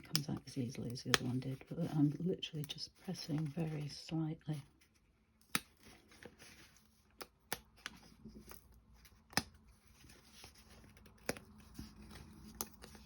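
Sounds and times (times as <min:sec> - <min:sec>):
faint handling rustle: 0:00.3 - 0:07.2, 0:07.8 - 0:13.0.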